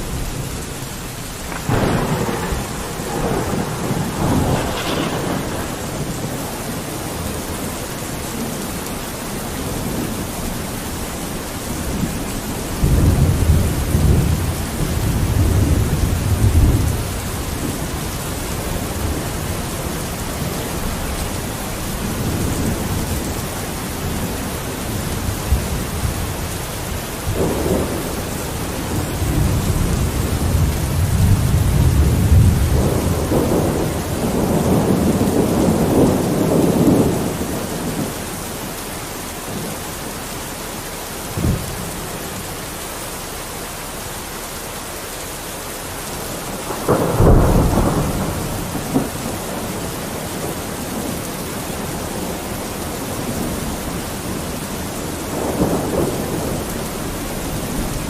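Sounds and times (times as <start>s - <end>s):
thunder rumbling: 0.0s - 43.6s, 45.8s - 58.0s
rain falling on a window: 0.0s - 58.0s.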